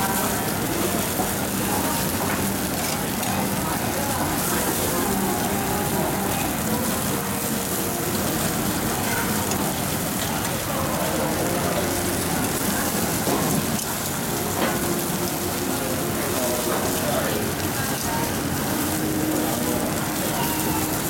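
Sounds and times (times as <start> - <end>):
meat sizzling over charcoal: 0.0 - 21.0.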